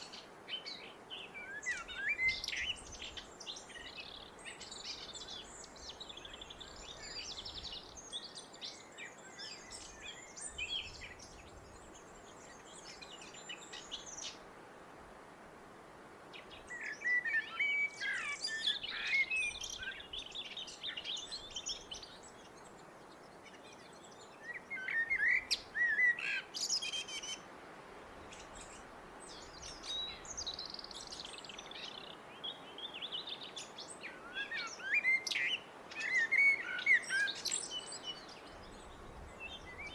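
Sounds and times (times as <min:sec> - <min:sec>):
blackbird singing: 0:00.0 - 0:11.6, 0:16.5 - 0:22.4, 0:23.5 - 0:27.4, 0:29.3 - 0:39.9
steady background hiss: 0:00.0 - 0:39.9.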